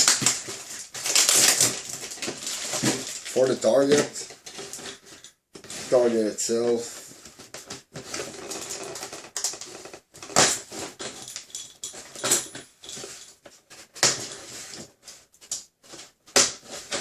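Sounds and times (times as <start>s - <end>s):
plastic pieces rustling and clacking: 0.0s - 17.0s.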